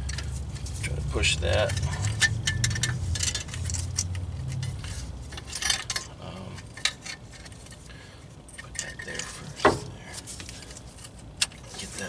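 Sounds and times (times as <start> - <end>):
metal parts clinking: 0.0 - 12.0.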